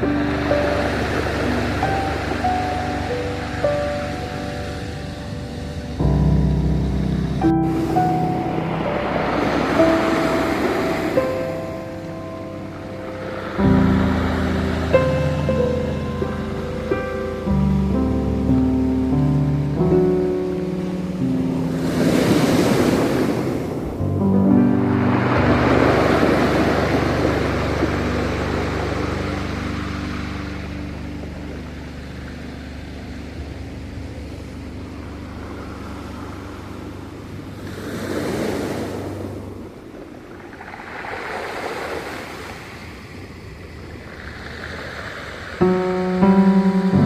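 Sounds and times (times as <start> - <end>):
low held music chord: 0.0 - 39.8, 45.6 - 47.0
ocean waves breaking: 0.0 - 47.0.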